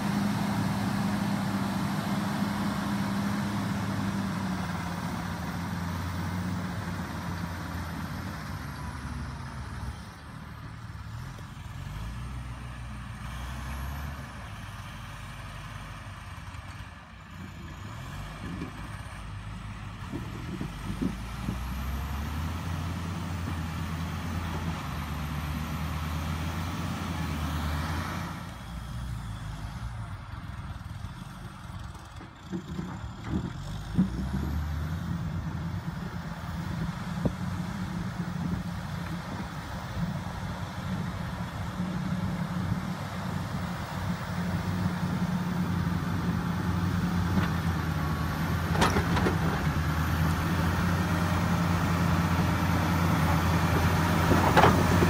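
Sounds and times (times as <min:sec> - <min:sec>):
grader diesel engine under load: 0:00.0 - 0:55.0.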